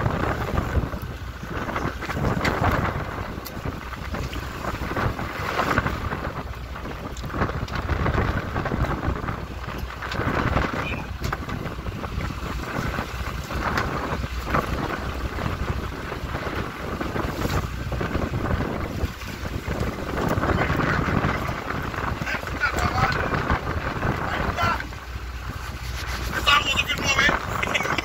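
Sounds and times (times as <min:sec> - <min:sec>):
water washing against boat hull: 0:00.0 - 0:28.0
wind buffeting microphone: 0:00.0 - 0:28.0.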